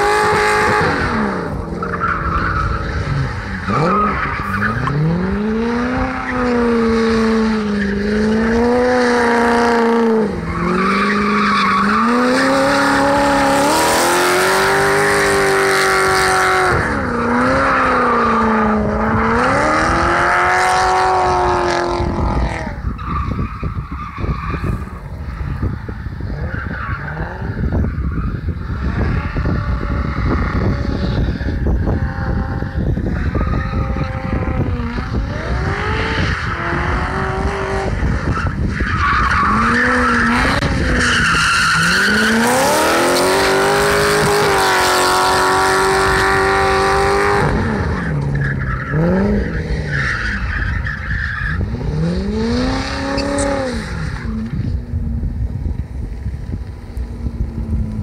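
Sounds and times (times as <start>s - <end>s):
car engine revving: 0.0s - 23.6s, 24.4s - 54.7s.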